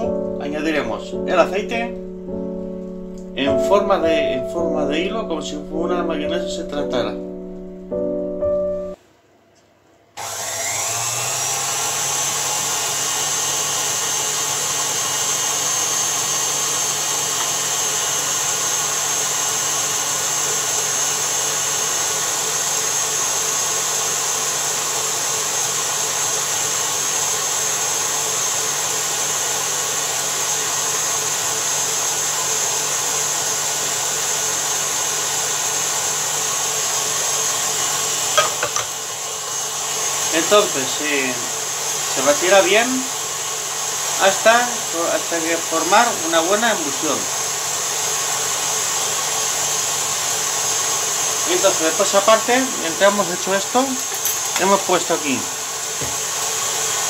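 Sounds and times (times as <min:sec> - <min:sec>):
stand mixer motor whine: 0:10.2 - 0:57.0.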